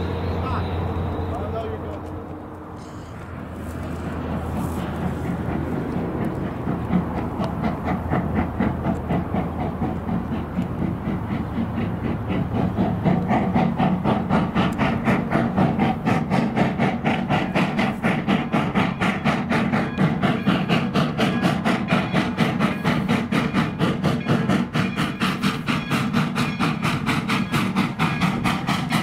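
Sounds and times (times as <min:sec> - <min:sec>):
train running by: 0:00.0 - 0:29.0.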